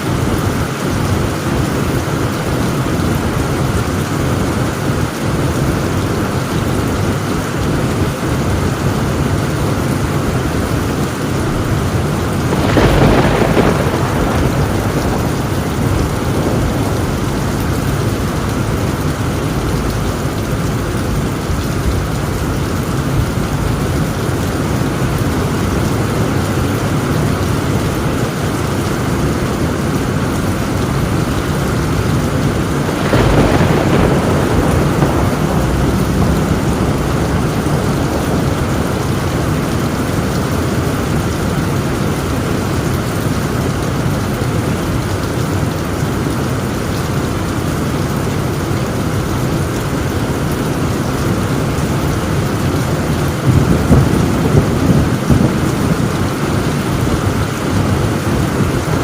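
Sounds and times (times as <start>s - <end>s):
heavy rain on a tin roof: 0.0s - 59.0s
thunder rolling: 0.1s - 44.0s, 50.7s - 59.0s.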